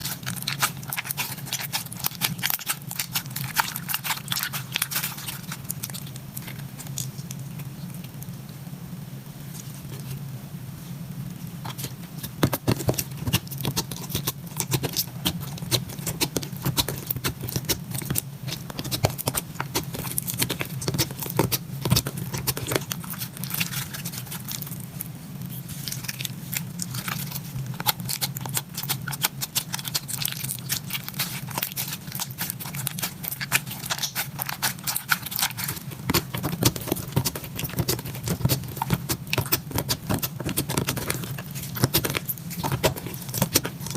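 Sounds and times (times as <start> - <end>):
slime squished by hand: 0.0 - 8.2, 11.6 - 43.9
steady low hum: 0.0 - 43.9.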